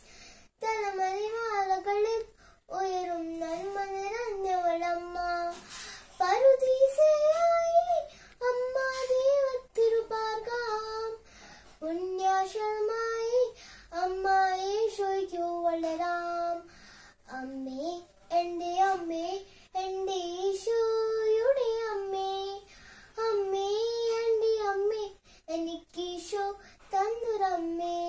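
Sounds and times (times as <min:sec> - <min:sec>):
girl singing unaccompanied: 0:00.0 - 0:28.0.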